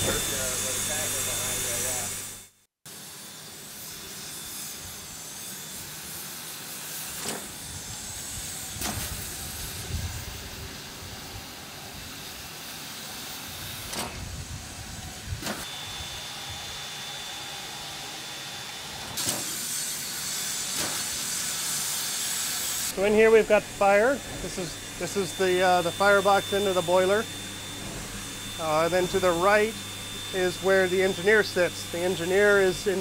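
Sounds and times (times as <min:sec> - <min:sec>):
steam hissing: 0:00.0 - 0:33.0.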